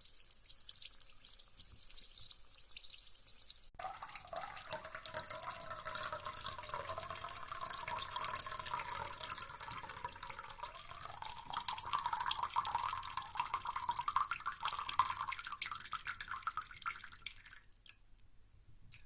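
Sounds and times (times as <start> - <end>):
bath bomb fizzing: 0.0 - 17.4.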